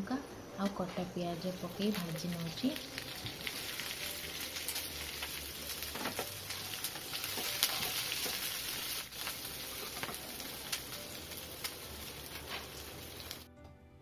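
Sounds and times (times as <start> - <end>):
food sizzling in hot oil: 1.0 - 13.5.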